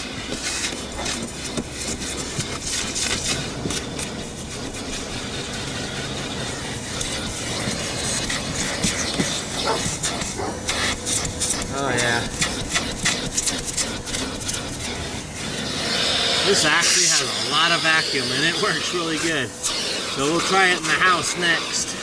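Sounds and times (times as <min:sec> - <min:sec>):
nozzle scraping fabric: 0:00.0 - 0:22.0
vacuum cleaner running: 0:00.0 - 0:22.0.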